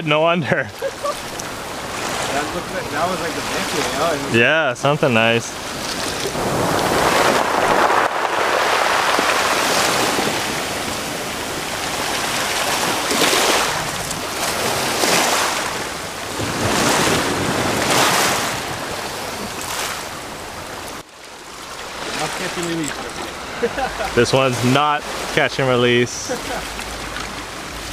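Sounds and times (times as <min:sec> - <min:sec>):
waves washing over pebbles: 0:00.4 - 0:27.9.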